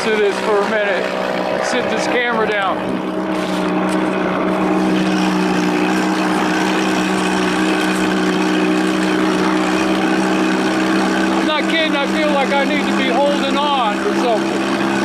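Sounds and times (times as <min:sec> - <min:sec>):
two-stroke outboard motor running: 0:00.0 - 0:15.0.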